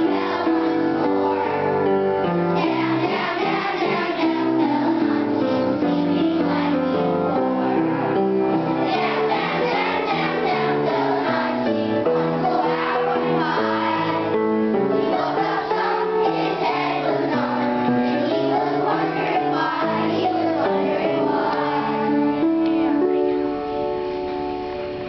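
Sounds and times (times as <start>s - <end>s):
children singing in chorus: 0.0s - 1.7s, 2.6s - 7.6s, 8.8s - 23.1s
backing music: 0.0s - 25.0s.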